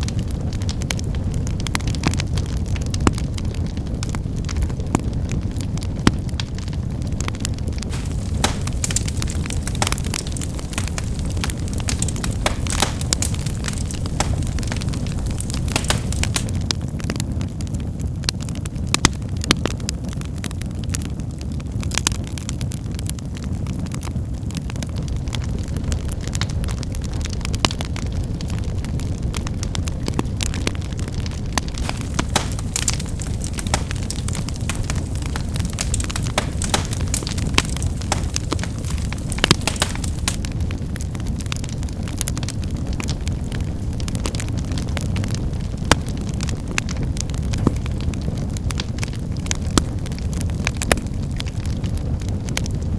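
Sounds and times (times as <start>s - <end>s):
firewood crackling and popping: 0.0s - 52.9s
low rumble of flames: 0.0s - 52.9s.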